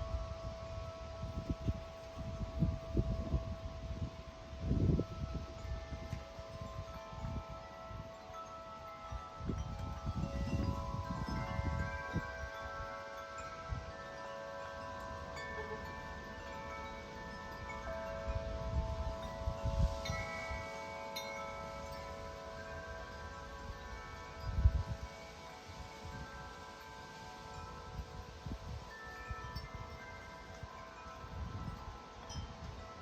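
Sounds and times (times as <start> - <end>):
tubular wind chime ringing: 0.0 - 33.0
wind buffeting microphone: 0.0 - 33.0.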